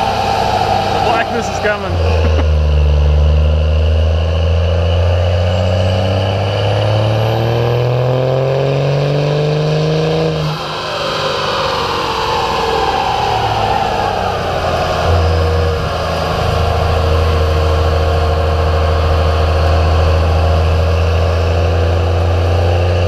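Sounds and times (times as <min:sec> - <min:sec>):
turbo diesel truck engine revving: 0:00.0 - 0:23.0.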